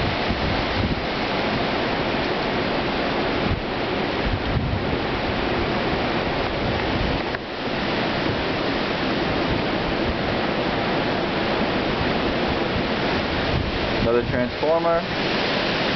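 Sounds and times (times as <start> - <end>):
strong wind roaring: 0.0 - 15.9
wind buffeting microphone: 0.0 - 15.9.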